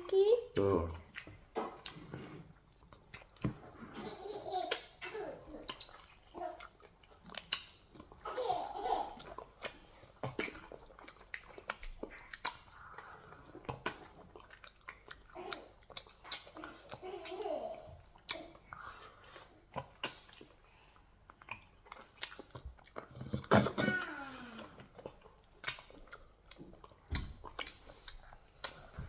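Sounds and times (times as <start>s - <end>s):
people chewing and smacking: 0.5s - 29.0s.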